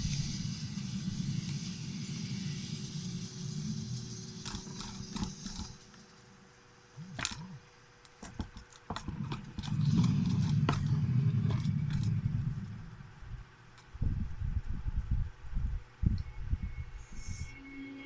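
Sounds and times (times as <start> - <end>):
low rumble: 0.0 - 6.1, 9.0 - 17.6.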